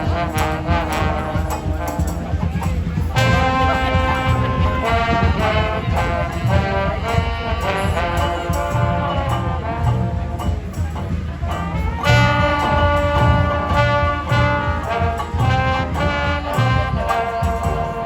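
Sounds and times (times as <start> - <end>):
brass band horns playing: 0.0 - 18.0
low drum beat: 0.0 - 18.0.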